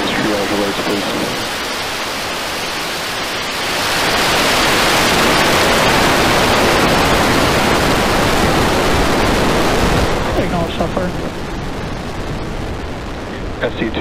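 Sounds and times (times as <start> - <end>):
rocket engines roaring: 0.0 - 14.0.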